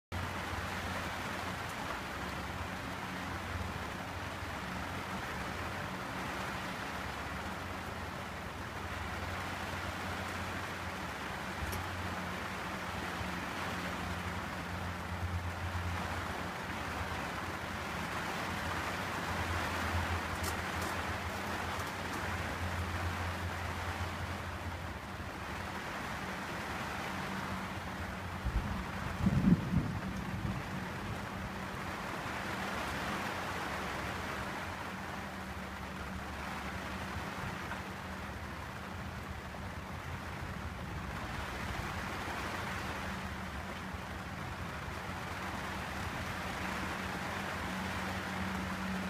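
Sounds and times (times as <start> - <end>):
rain on a boat enclosure: 0.1 - 49.0.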